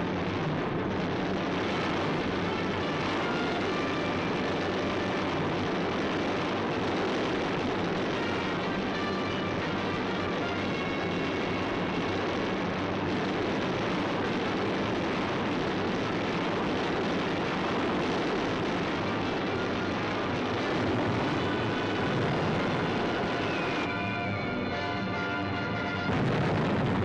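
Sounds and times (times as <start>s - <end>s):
piston aircraft engines droning: 0.0s - 27.0s.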